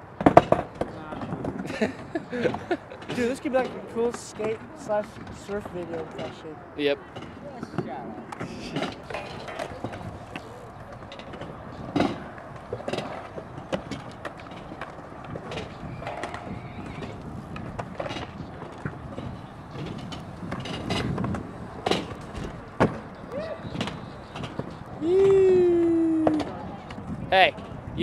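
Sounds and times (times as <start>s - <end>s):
skateboard clacks and knocks: 0.0s - 6.4s, 7.1s - 27.8s
skate wheels rolling on concrete: 0.0s - 28.0s.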